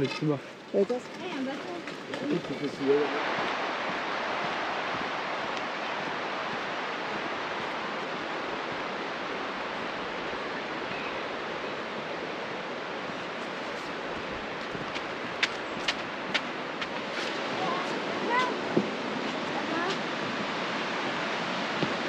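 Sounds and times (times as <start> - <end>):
river current rushing: 0.0 - 22.0.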